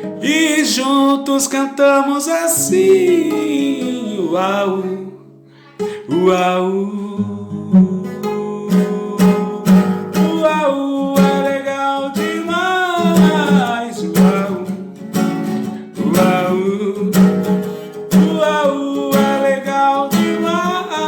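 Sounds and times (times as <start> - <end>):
acoustic guitar strumming: 0.0 - 21.0
person singing wordless calls: 0.2 - 5.2, 6.0 - 14.9, 15.8 - 21.0.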